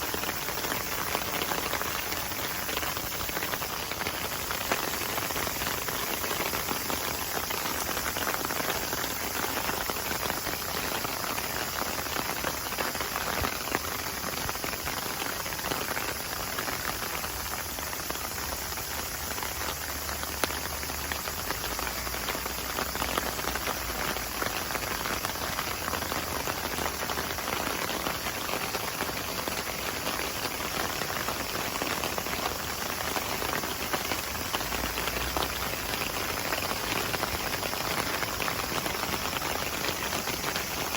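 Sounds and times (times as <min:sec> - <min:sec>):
patter of falling water: 0:00.0 - 0:40.9.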